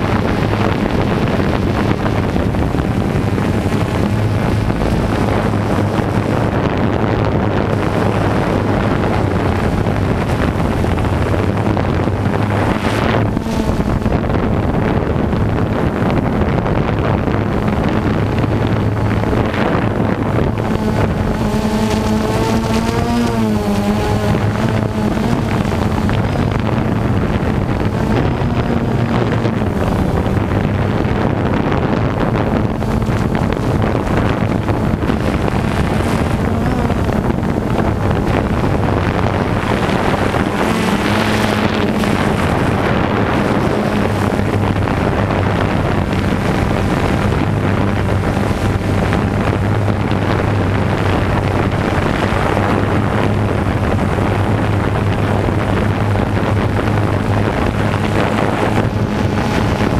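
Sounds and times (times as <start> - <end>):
drone propellers buzzing: 0.0 - 59.9
wind buffeting microphone: 0.0 - 59.9.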